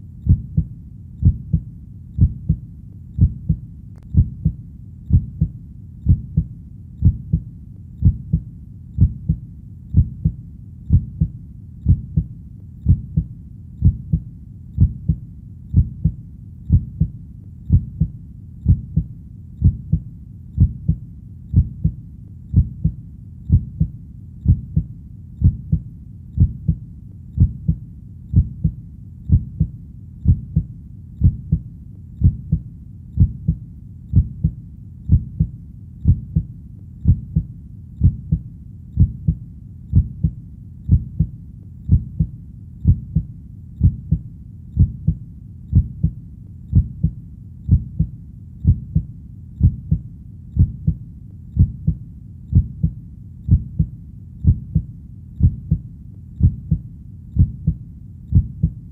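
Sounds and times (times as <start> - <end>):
heartbeat thumps: 0.0 - 58.9.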